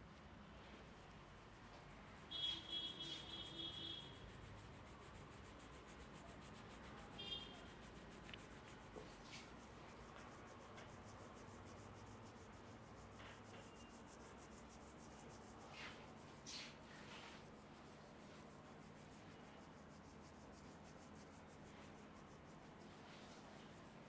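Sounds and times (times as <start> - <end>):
hands rubbing hair and scalp: 4.3 - 23.8.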